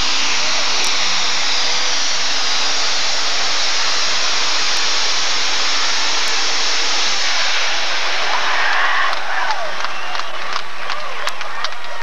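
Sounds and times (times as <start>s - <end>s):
tractor engine roaring under load: 0.0s - 11.0s.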